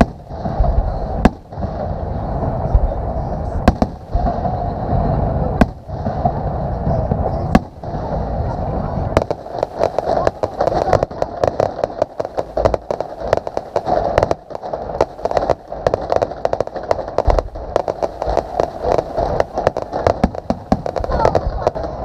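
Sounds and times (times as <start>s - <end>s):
deep firework booms: 0.0s - 22.0s
fireworks crackling: 0.0s - 22.0s.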